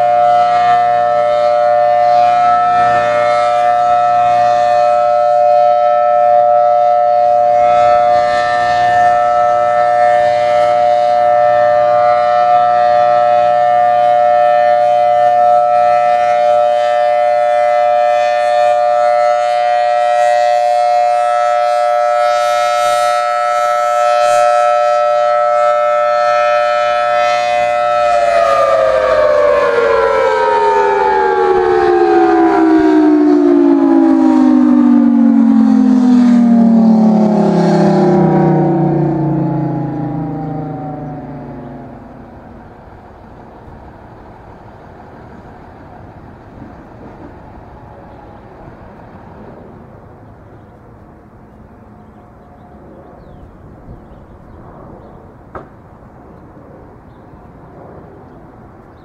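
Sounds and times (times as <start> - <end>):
warning siren steady tone: 0.0 - 48.9.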